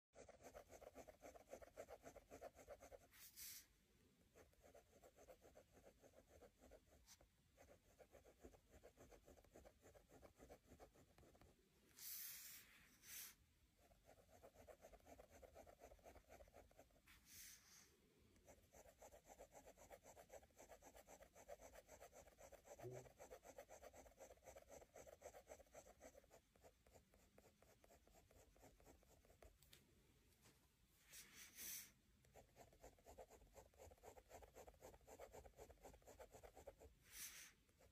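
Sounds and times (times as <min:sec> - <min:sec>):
ballpoint pen scratching on paper: 0:00.2 - 0:03.6, 0:04.4 - 0:12.6, 0:13.2 - 0:17.6, 0:18.4 - 0:29.5, 0:31.7 - 0:37.9.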